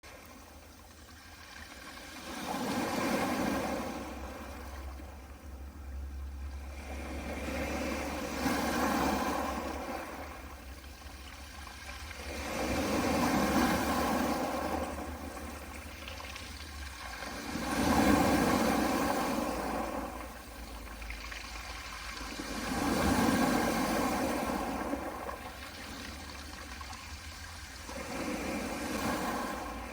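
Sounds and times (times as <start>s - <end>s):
sea waves on pebble beach: 0.1s - 5.3s, 6.6s - 29.9s
faint low rumble: 0.1s - 29.9s.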